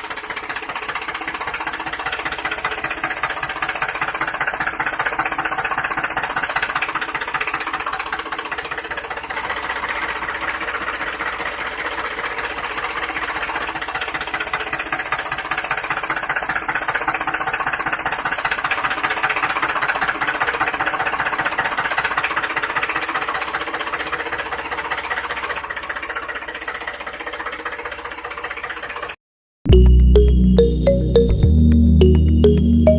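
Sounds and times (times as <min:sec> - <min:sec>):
small motor rattling: 0:00.0 - 0:29.2.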